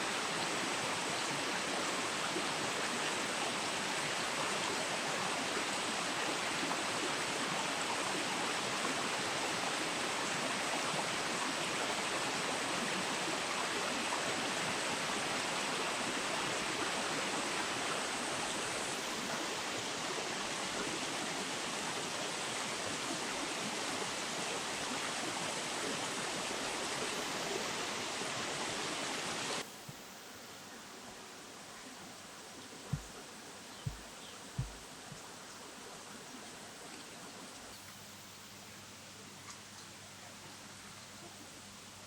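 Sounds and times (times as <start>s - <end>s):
flowing river water: 0.0s - 42.0s.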